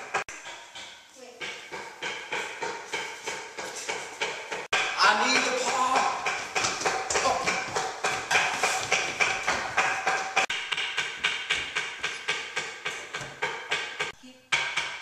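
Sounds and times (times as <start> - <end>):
pounding on a door: 0.0 - 15.0.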